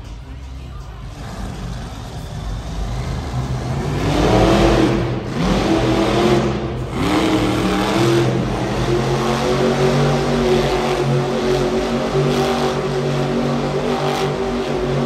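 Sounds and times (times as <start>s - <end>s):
truck engine revving: 1.0s - 15.0s.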